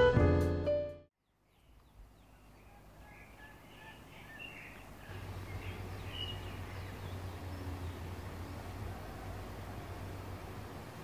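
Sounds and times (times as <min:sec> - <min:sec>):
small birds chirping: 0:01.2 - 0:11.0.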